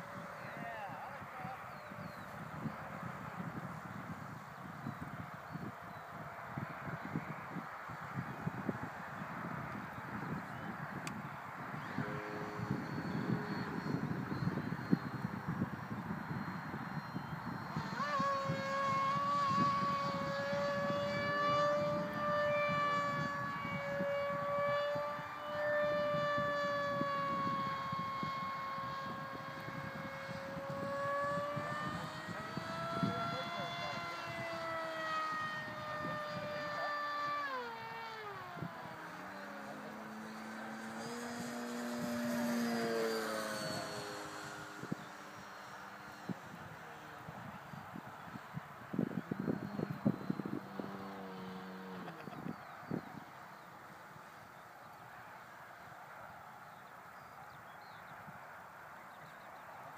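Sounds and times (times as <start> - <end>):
electric motor and propeller whining: 0.0 - 59.9.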